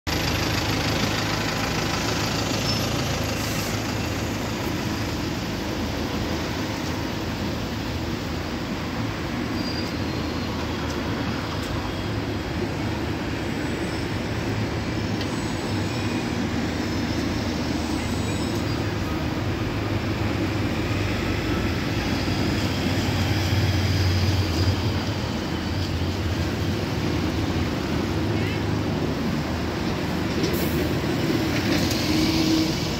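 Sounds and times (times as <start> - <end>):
bus engine idling: 0.1 - 31.7
street traffic: 0.1 - 32.9.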